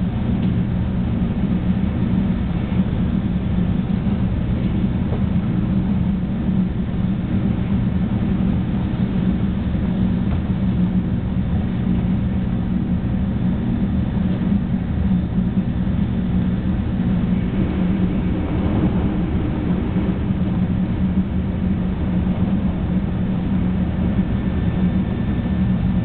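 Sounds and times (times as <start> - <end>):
train cabin rumble and hum: 0.0 - 26.0.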